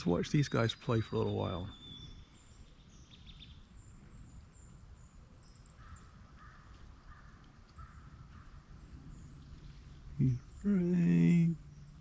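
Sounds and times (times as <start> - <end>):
faint high bird chirps: 0.0 - 12.0.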